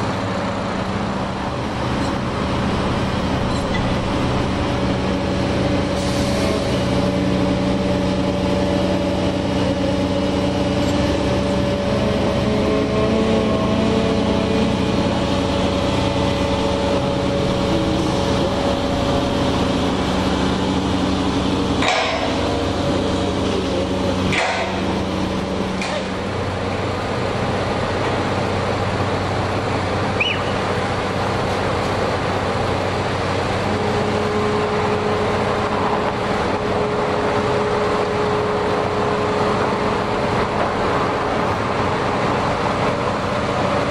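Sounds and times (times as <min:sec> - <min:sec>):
excavator engine idling: 0:00.0 - 0:43.9.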